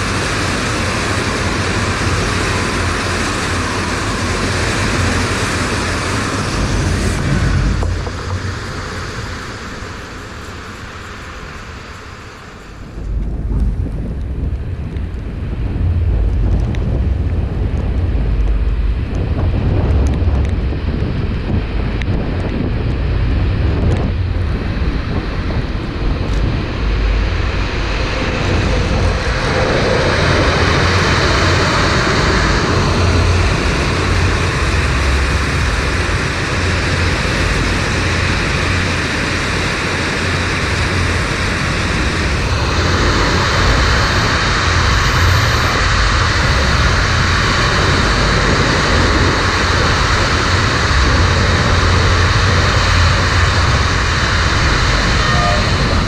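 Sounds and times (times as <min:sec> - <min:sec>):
train wheels rumbling on track: 0:00.0 - 0:56.0
wind buffeting microphone: 0:00.0 - 0:56.0.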